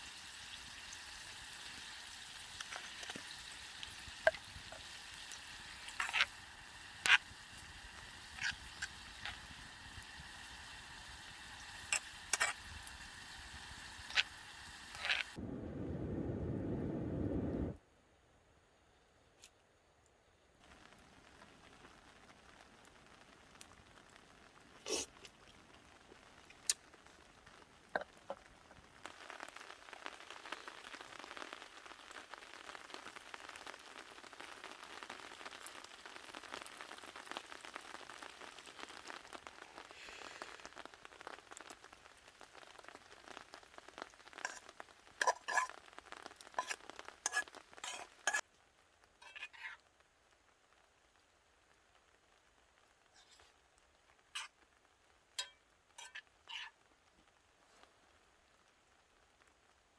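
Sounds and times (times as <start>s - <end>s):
food sizzling in a pan: 0.0s - 15.4s, 20.6s - 59.4s.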